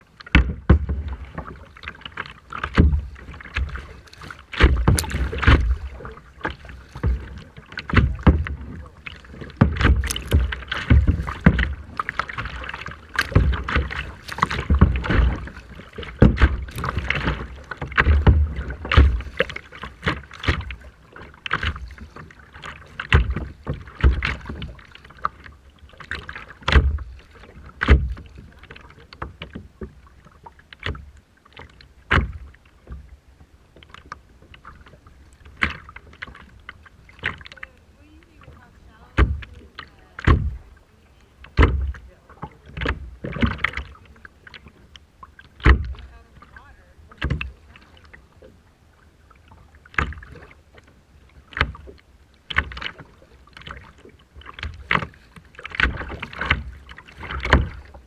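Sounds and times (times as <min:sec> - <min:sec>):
sea water splashing: 0:00.0 - 0:58.0.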